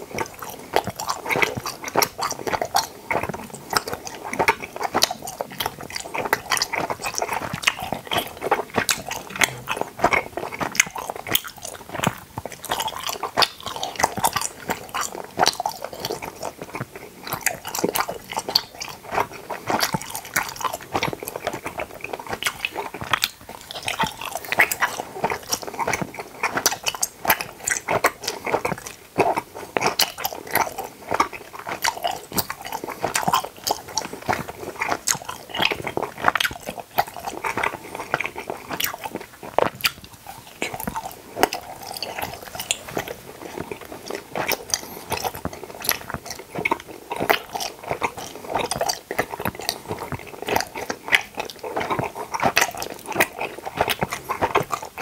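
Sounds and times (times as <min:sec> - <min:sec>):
chewing gummy candy: 0:00.0 - 0:55.0
mouth clicks and smacks: 0:00.0 - 0:55.0.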